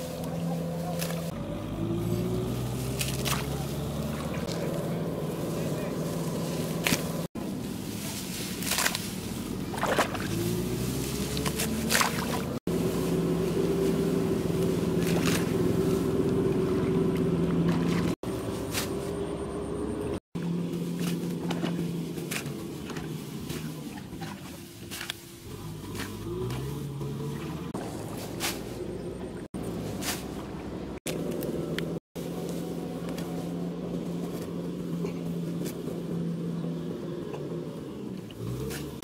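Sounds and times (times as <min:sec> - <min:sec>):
rice stalks snapping and rustling: 0:00.0 - 0:19.2, 0:20.4 - 0:36.2.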